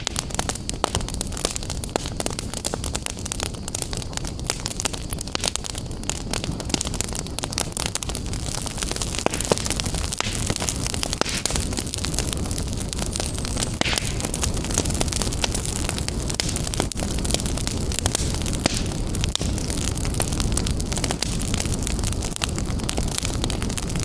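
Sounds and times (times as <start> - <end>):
low rush of burning: 0.0 - 24.0
wood fire crackling: 0.0 - 24.0.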